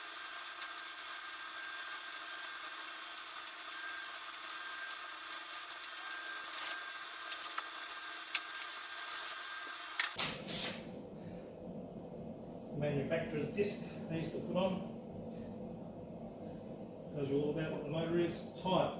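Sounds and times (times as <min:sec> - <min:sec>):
steady background hum: 0:00.0 - 0:18.9.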